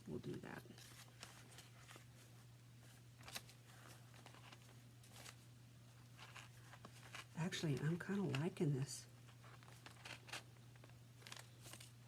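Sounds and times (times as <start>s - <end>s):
paper and thread rustling: 0.3s - 12.0s.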